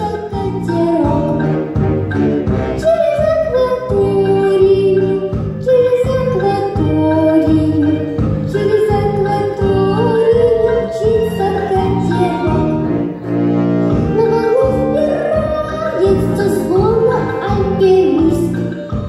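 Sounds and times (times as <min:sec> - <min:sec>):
girl singing into a microphone: 0:00.0 - 0:01.4, 0:02.8 - 0:12.8, 0:14.0 - 0:19.0
instrumental accompaniment with beat: 0:00.0 - 0:19.0.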